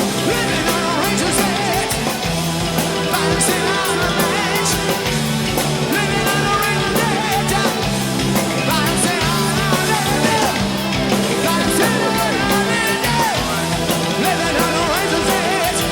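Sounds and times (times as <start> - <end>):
rock music with singing: 0.0 - 15.9.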